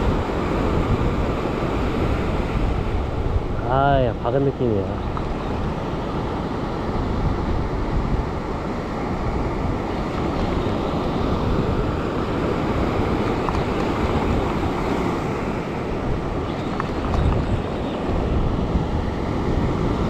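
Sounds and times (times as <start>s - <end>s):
ocean surf over rocks: 0.0s - 20.0s
wind on microphone: 0.0s - 20.0s.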